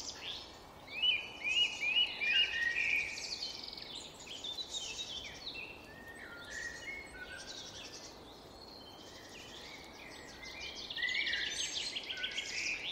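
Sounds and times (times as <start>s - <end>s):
songbirds chirping and trilling: 0.0s - 12.9s.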